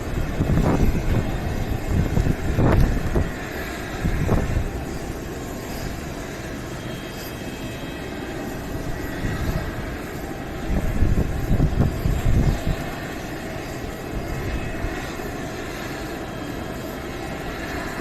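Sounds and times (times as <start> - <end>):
aircraft engines droning: 0.0 - 18.0.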